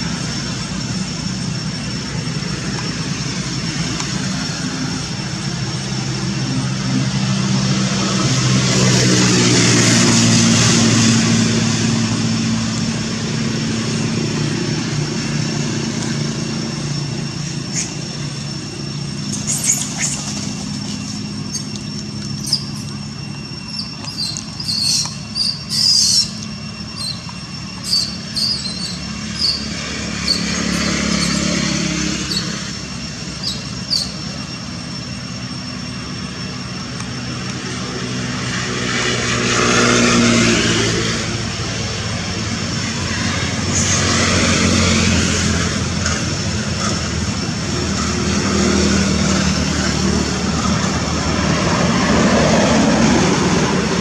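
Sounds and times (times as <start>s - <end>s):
vehicles passing: 0.0s - 54.0s.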